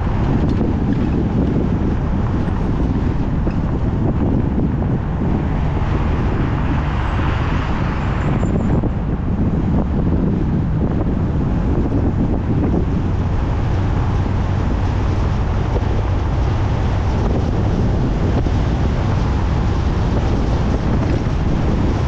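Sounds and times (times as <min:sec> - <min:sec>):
car road noise: 0:00.0 - 0:22.0
wind buffeting microphone: 0:00.0 - 0:22.0.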